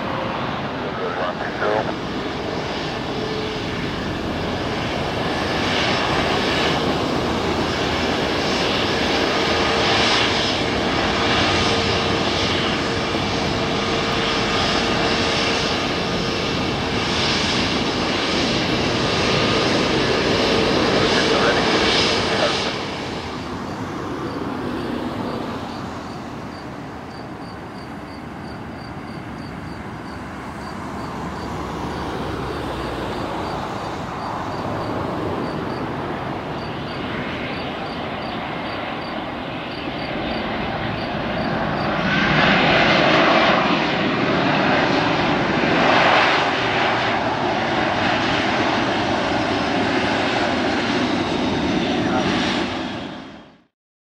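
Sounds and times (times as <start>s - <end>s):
jet engine noise: 0.0s - 53.7s.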